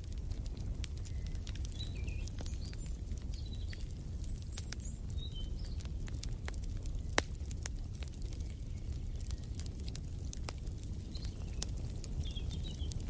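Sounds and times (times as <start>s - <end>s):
wood fire crackling: 0.0s - 13.0s
small birds chirping: 0.3s - 13.0s.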